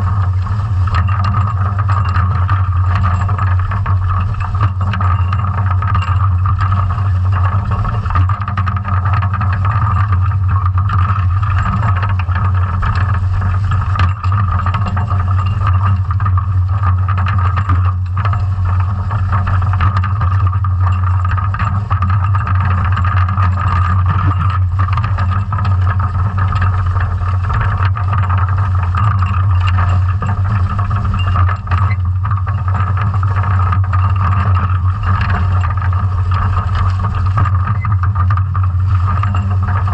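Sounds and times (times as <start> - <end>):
underwater dredge drone: 0.0 - 39.9.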